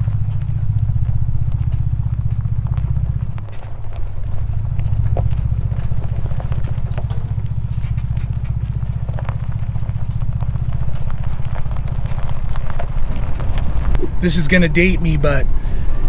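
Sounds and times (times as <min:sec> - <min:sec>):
light crackles and clicks: 0:00.0 - 0:15.2
engine rumbling: 0:00.0 - 0:16.0.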